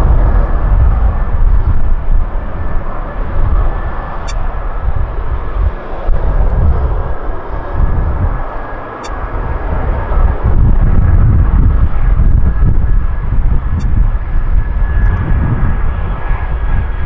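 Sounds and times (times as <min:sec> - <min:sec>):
faint high whine: 0:00.0 - 0:17.0
heavy low rumble: 0:00.0 - 0:17.0
jet airliner noise: 0:00.0 - 0:17.0.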